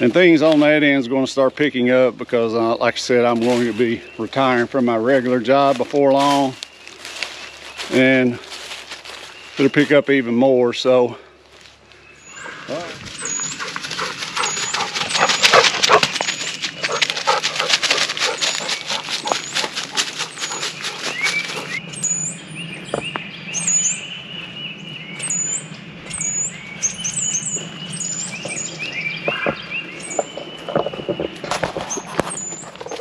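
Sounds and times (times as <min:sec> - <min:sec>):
leaves crackling underfoot: 0:00.0 - 0:01.2, 0:02.8 - 0:33.0.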